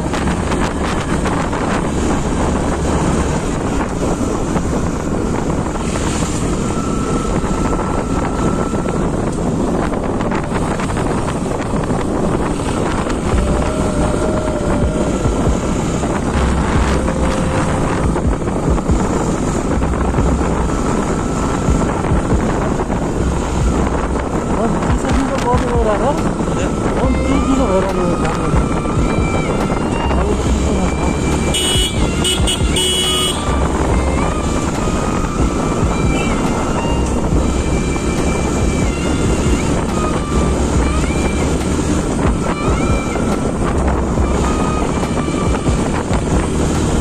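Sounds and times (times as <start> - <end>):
motorcycle engine and tyre rumble: 0.0 - 47.0
wind buffeting microphone: 0.0 - 47.0.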